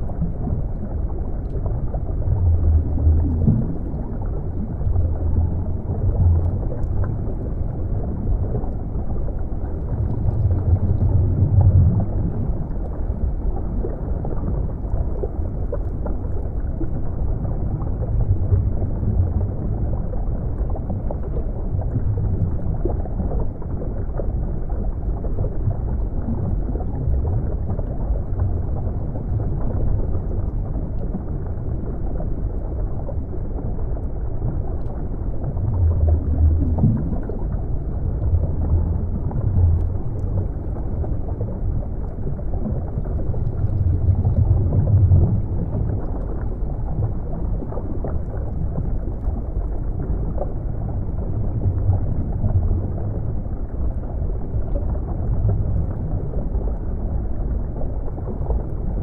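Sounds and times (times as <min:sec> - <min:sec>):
underwater rumble of moving water: 0:00.0 - 0:59.0.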